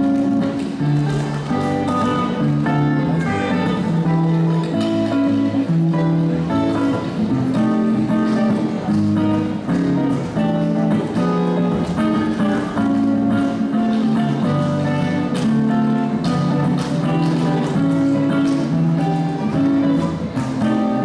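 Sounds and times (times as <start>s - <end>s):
guitar playing chords: 0.0s - 21.0s.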